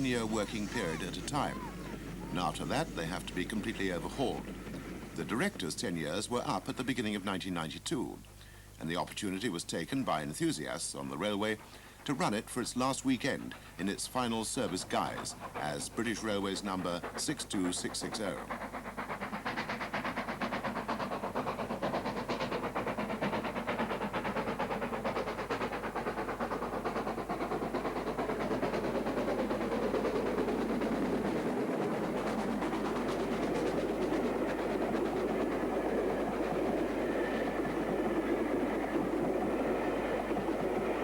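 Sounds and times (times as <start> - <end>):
train wheels on rail: 0.0 - 7.3, 9.4 - 41.0
steam locomotive exhaust beat: 0.0 - 7.8, 9.4 - 41.0.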